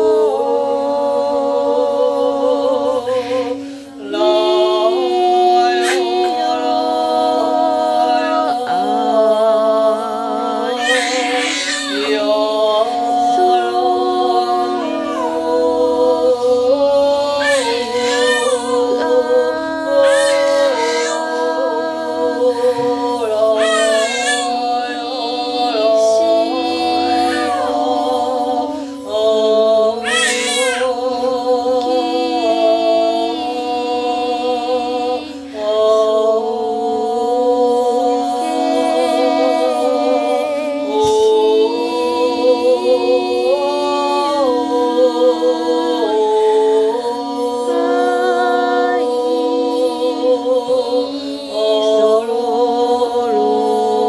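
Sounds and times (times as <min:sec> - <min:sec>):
man singing wordlessly: 0:00.0 - 0:49.2, 0:49.8 - 0:54.0.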